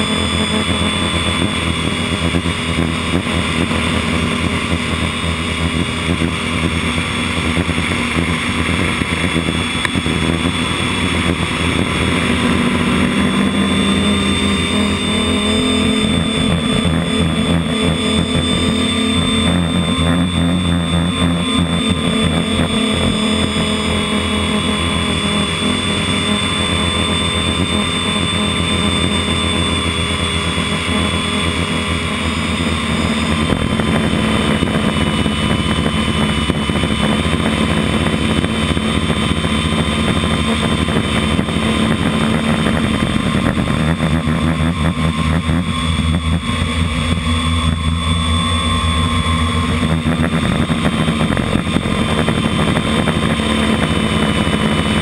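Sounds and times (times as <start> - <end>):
model aircraft motor whining: 0.0 - 55.0.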